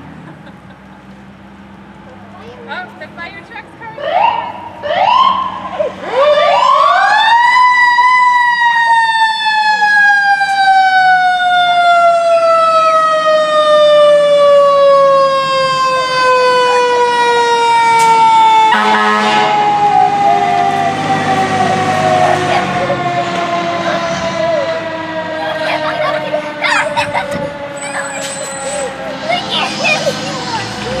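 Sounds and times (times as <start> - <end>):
fire truck siren: 4.0 - 31.0.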